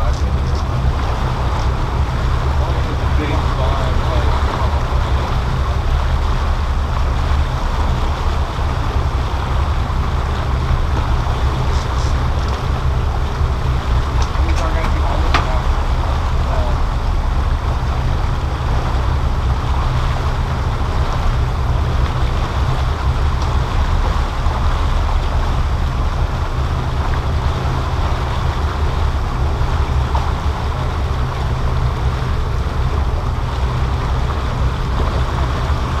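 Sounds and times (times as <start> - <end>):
boat engine running: 0.0 - 36.0
water noise: 0.0 - 36.0
wind buffeting microphone: 0.0 - 36.0.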